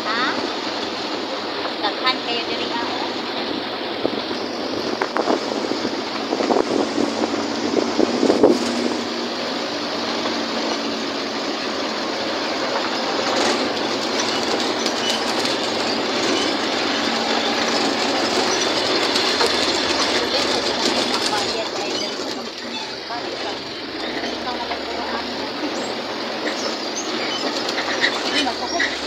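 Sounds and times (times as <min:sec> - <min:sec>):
moving vehicle running noise: 0:00.0 - 0:29.0
rattles and knocks: 0:04.2 - 0:29.0.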